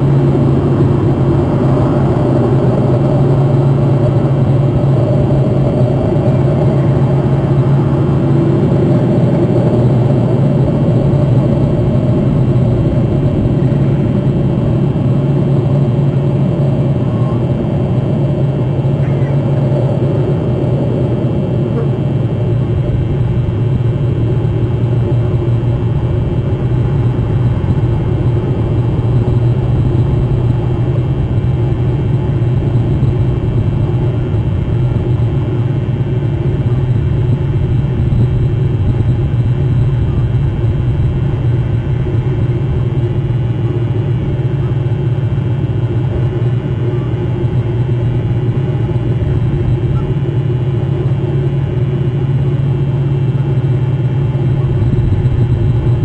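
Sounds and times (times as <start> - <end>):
constant low hum: 0.0 - 56.0
loud low rumble: 0.0 - 56.0.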